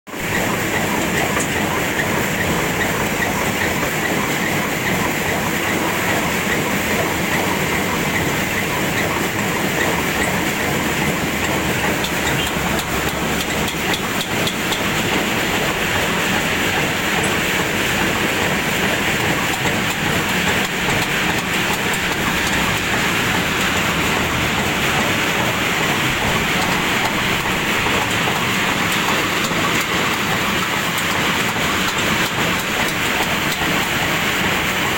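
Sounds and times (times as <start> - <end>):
sorting machine rattling: 0.1 - 34.9.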